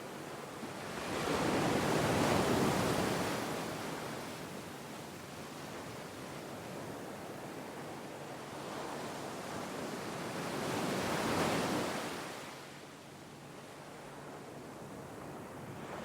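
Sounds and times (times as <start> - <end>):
gentle sea waves: 0.0 - 16.0.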